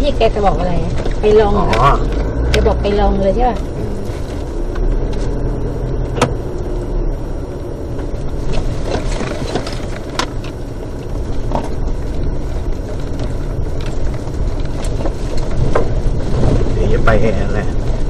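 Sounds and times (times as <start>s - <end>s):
engine and road rumble: 0.0s - 18.0s.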